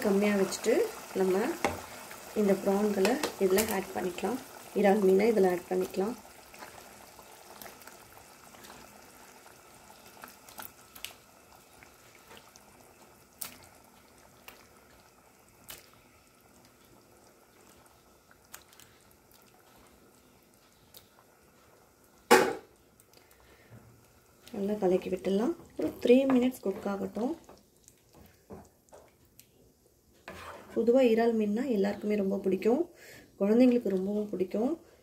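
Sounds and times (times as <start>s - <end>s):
gravy simmering faintly: 0.0s - 35.0s.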